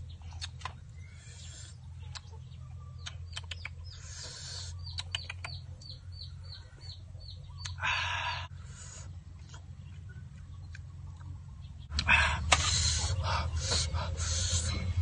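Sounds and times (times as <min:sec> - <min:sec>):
bird chirping: 0:00.0 - 0:15.0
steady low hum: 0:00.0 - 0:15.0.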